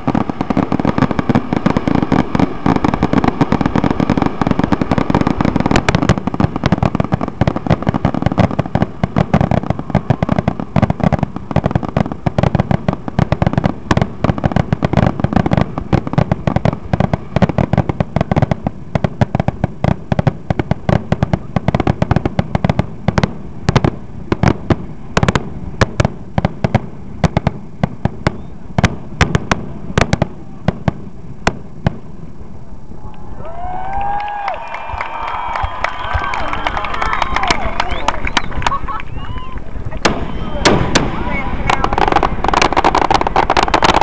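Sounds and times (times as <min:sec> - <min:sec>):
fireworks bangs and booms: 0:00.0 - 0:32.8, 0:33.5 - 0:44.0.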